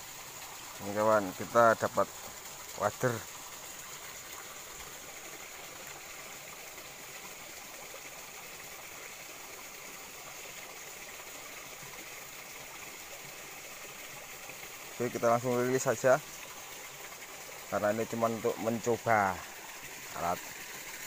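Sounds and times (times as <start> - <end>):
stream trickling: 0.0 - 21.0.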